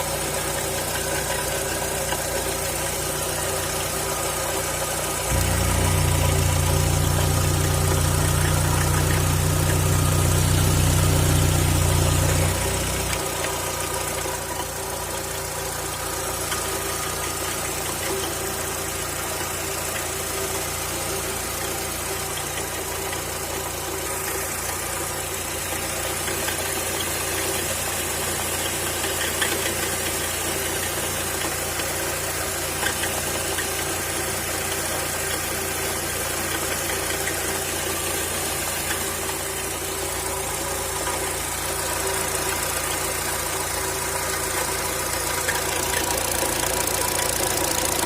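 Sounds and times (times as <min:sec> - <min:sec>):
car engine idling with rattle: 0:00.0 - 0:48.0.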